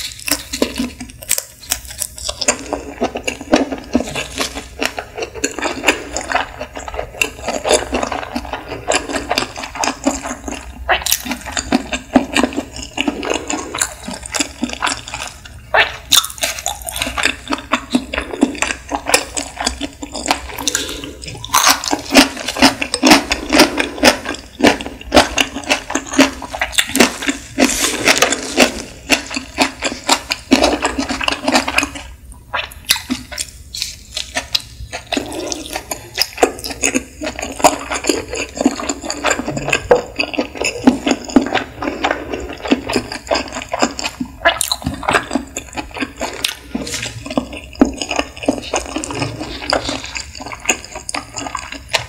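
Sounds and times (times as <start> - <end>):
mouth clicks and smacks chewing: 0.0 - 52.0.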